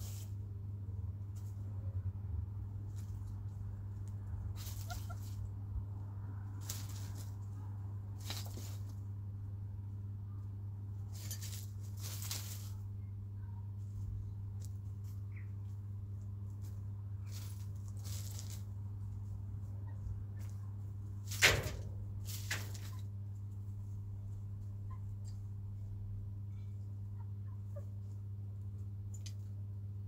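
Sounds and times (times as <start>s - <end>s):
chickens rustling and scratching: 0.0s - 29.7s
steady low hum: 0.0s - 30.0s.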